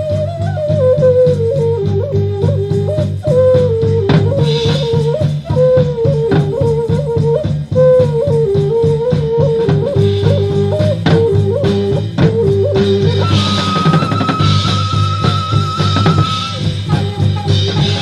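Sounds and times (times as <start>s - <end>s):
guitar music with bass and drums: 2.7s - 18.0s.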